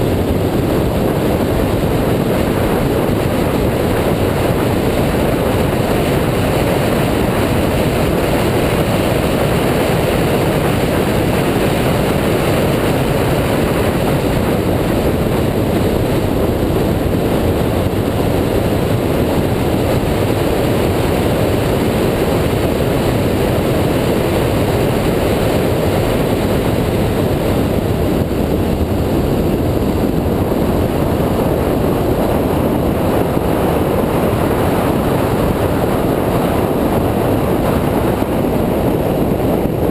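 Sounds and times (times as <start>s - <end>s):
wind and car noise rushing: 0.0s - 39.9s.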